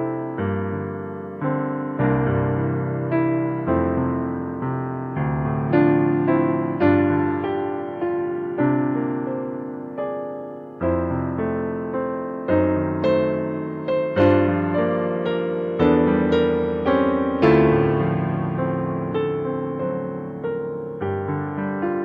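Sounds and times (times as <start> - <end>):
digital piano playing a waltz: 0.0 - 22.0.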